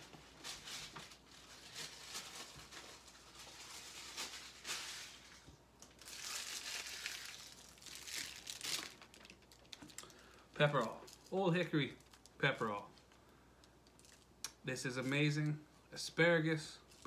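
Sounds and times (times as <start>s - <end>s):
rustling and crinkling handling: 0.0s - 15.6s, 16.8s - 17.0s.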